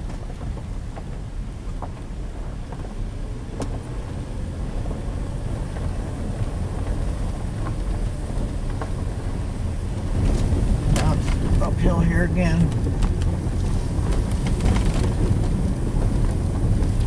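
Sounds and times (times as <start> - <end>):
car engine and tyres on dirt: 0.0 - 17.0.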